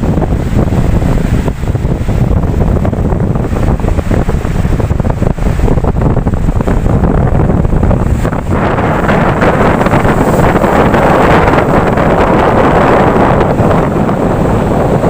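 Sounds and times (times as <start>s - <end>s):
ocean waves washing in: 0.0s - 15.0s
wind buffeting microphone: 0.0s - 15.0s.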